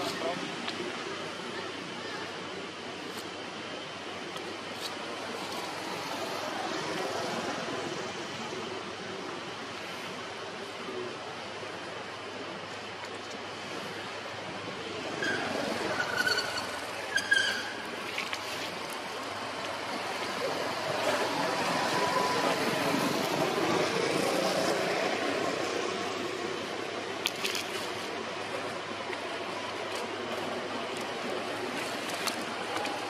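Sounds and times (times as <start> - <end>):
rushing background noise: 0.0 - 33.0.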